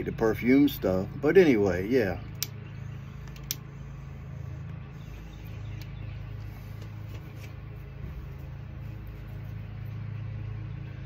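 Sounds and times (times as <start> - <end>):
lawnmower engine running: 0.0 - 11.0.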